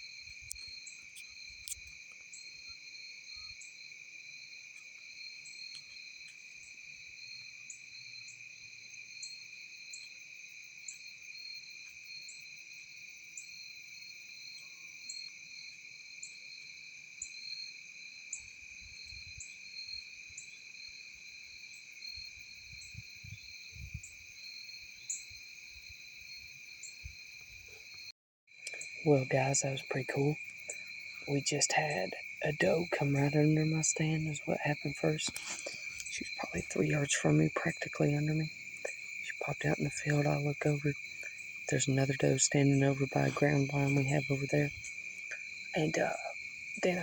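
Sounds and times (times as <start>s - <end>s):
crickets and insects trilling: 0.0s - 47.0s
repeating insect chirp: 0.0s - 47.0s.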